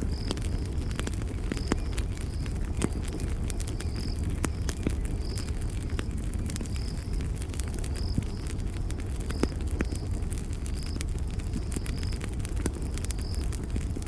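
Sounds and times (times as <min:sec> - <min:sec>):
cricket chirping: 0:00.0 - 0:13.9
campfire crackling: 0:00.0 - 0:14.0.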